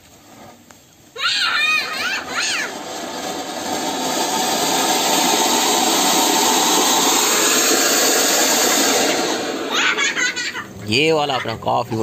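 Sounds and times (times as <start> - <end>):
fountain firework hissing sparks: 0.0 - 12.0.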